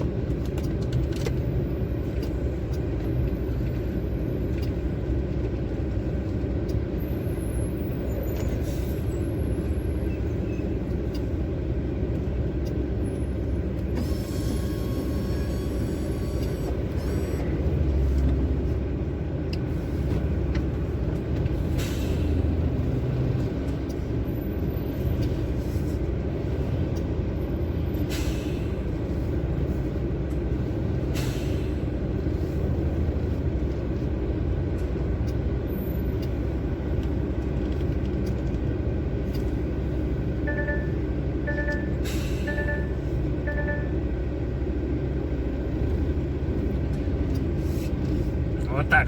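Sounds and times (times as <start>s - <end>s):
heavy truck engine and road rumble: 0.0s - 49.0s.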